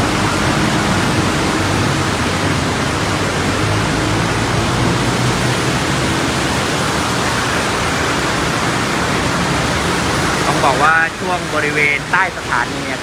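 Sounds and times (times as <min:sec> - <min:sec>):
vehicle engines running low: 0:00.0 - 0:13.0
water rushing and splashing: 0:00.0 - 0:13.0.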